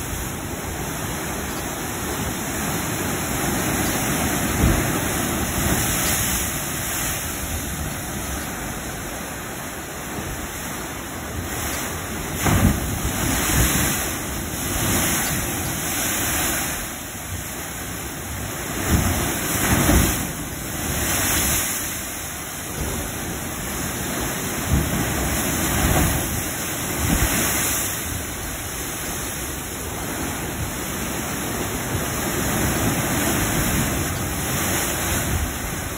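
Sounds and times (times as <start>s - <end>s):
waves crashing against rocks: 0.0s - 35.9s.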